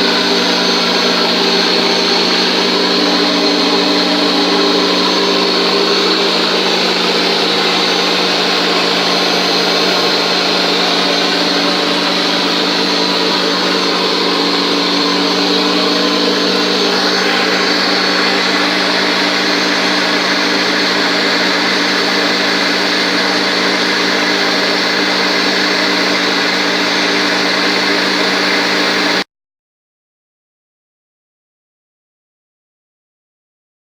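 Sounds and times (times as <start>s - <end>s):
electric jigsaw running: 0.0s - 29.2s.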